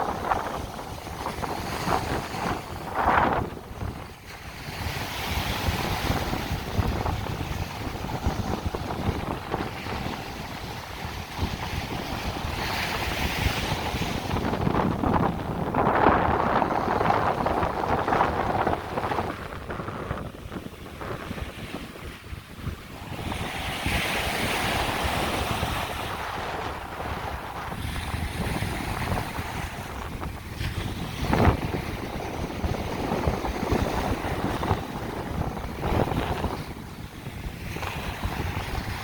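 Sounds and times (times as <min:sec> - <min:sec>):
surf washing on beach: 0:00.0 - 0:39.0
wind buffeting microphone: 0:00.0 - 0:39.0
wind thump on microphone: 0:00.0 - 0:39.0.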